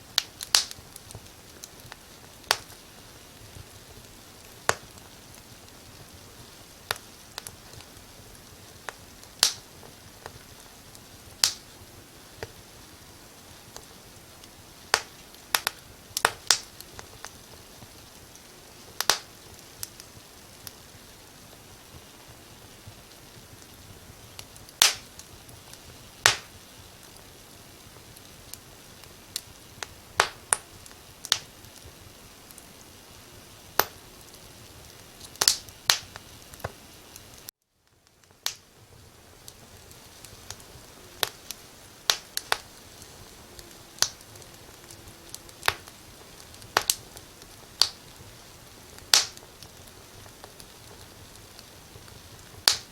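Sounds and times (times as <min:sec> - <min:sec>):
firewood crackling and popping: 0:00.0 - 0:52.9
soft steady hiss: 0:00.0 - 0:52.9.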